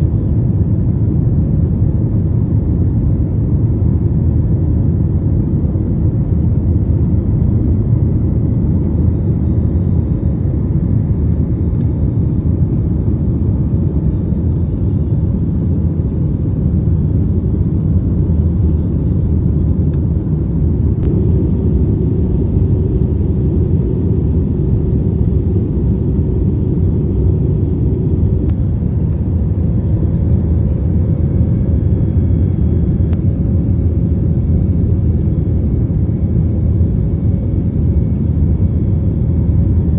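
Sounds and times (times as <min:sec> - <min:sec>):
airliner cabin engine rumble: 0:00.0 - 0:39.9
faint steady hum: 0:04.0 - 0:39.9.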